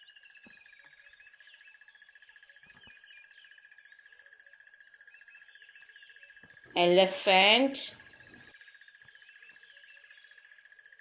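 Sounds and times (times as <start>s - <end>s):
faint small bird chirps: 0.0s - 11.0s.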